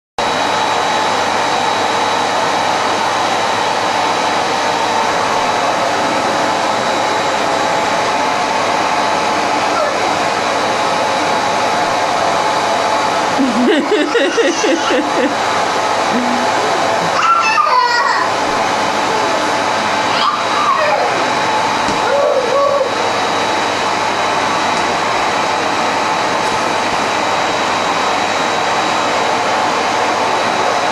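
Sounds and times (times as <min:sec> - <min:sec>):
vacuum cleaner running: 0:00.2 - 0:30.9.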